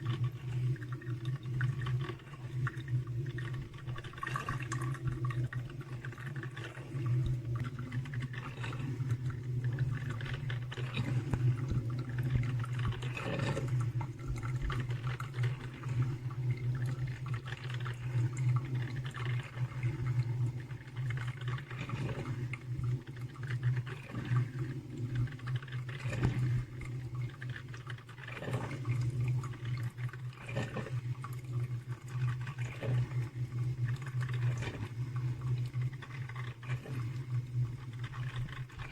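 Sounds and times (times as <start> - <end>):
coffee maker water gurgling: 0.0 - 38.9
low machine hum: 0.0 - 38.9.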